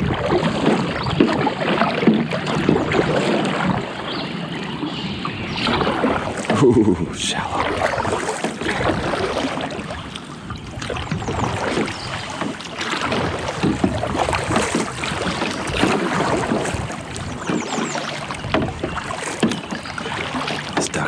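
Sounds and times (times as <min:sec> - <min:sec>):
paddle splashes: 0:00.0 - 0:21.0
water splashing around kayak: 0:00.0 - 0:21.0.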